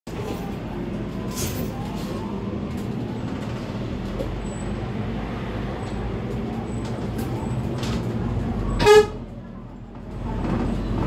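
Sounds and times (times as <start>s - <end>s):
bus engine running: 0.1s - 11.0s
tyre and road noise: 0.1s - 11.0s.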